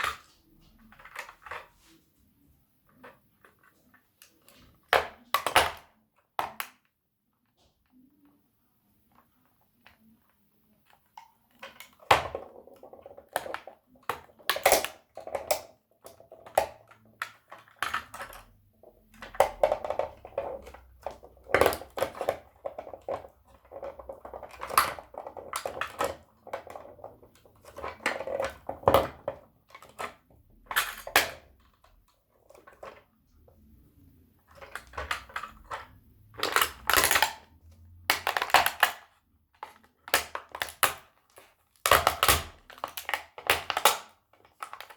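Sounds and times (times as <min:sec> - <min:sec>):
plastic toys cracking and crunching: 0:00.0 - 0:01.7, 0:02.9 - 0:08.0, 0:10.9 - 0:33.1, 0:34.4 - 0:44.9.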